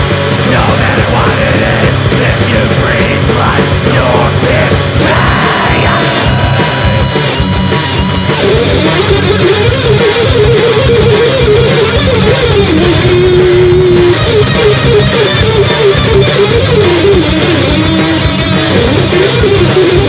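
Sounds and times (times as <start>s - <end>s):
dense drums: 0.0s - 20.0s
distorted electric guitar melody: 0.0s - 20.0s
heavy rhythm guitar: 0.0s - 20.0s.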